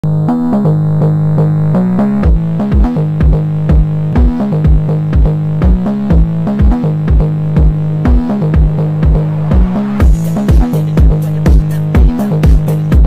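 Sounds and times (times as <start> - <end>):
synth bass line: 0.0 - 13.0
deep kick drum: 2.2 - 13.0.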